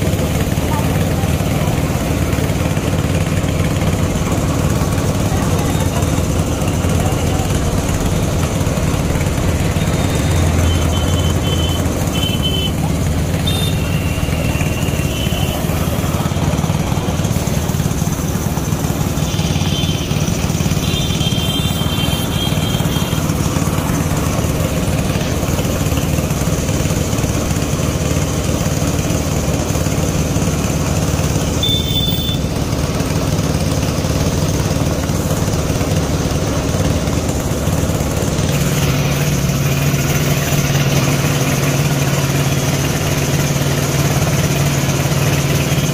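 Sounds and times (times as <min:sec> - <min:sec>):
paint spray gun hissing: 0:00.0 - 0:45.9.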